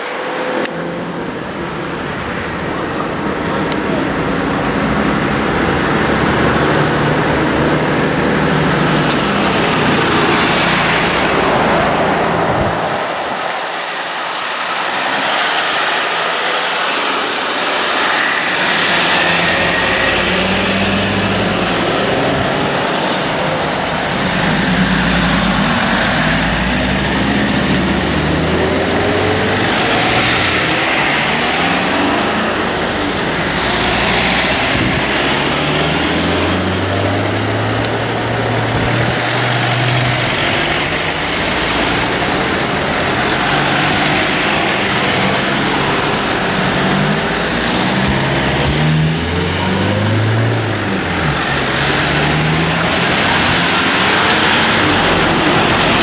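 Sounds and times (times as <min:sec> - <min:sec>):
tyre and road noise: 0:00.0 - 0:56.0
vehicle engines driving past: 0:00.0 - 0:56.0.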